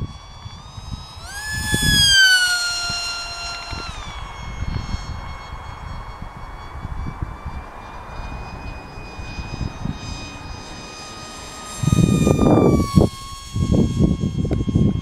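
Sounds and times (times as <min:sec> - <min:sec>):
electric motor and propeller whining: 0:00.0 - 0:15.0
wind rumbling on microphone: 0:00.0 - 0:15.0.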